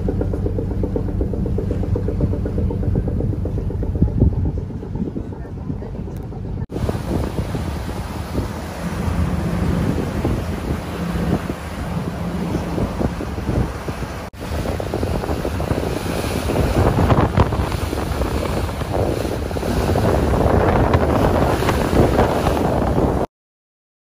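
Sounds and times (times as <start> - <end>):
boat engine rumble: 0.0 - 23.3
rush of the sea: 0.0 - 23.3
wind buffeting microphone: 0.0 - 23.3.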